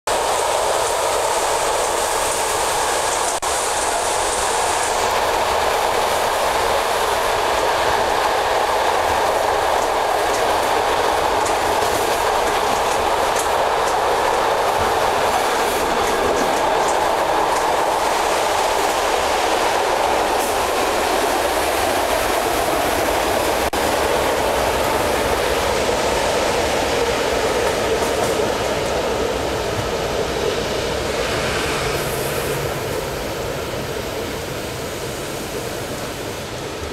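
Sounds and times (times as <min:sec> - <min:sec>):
high hiss: 0:00.1 - 0:36.9
train wheels on rails: 0:00.1 - 0:36.9.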